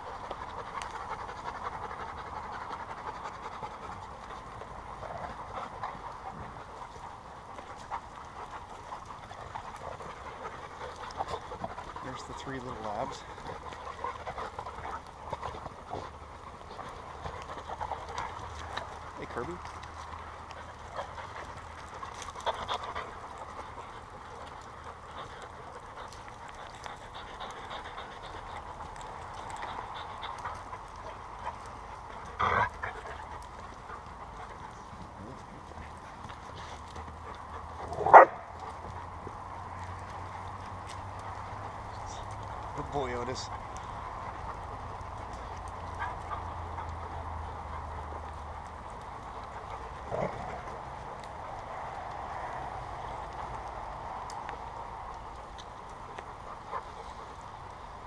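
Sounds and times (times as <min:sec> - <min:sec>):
dogs panting: 0:00.0 - 0:58.0.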